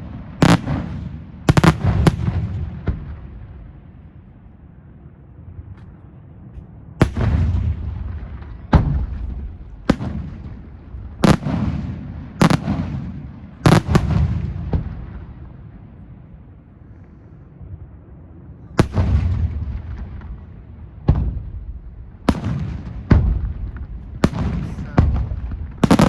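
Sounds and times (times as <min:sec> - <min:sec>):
fireworks bursting with rumbling echo: 0:00.0 - 0:26.0.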